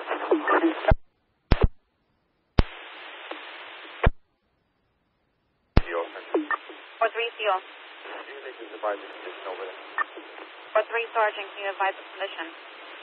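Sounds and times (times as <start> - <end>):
radio hiss: 0.0 - 1.7, 2.6 - 4.2, 5.8 - 13.0
radio click: 0.0 - 1.8, 2.6 - 4.2, 5.8 - 13.0.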